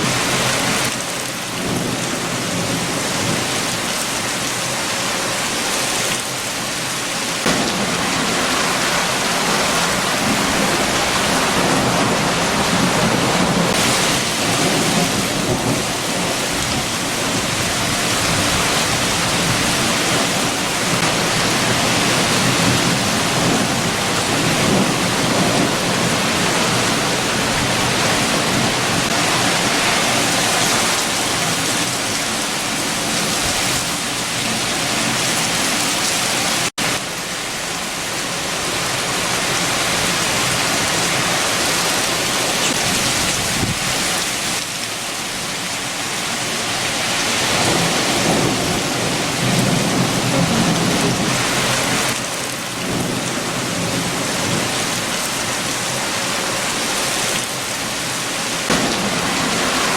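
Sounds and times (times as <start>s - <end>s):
heavy rain: 0.0s - 59.9s
strong wind: 0.0s - 59.9s.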